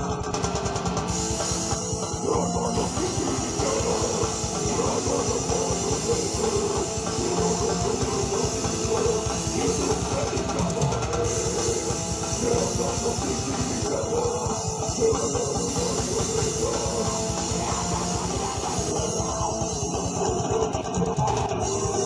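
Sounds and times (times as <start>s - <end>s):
electric guitars: 0.0s - 22.0s
fast dense drumming: 0.0s - 22.0s.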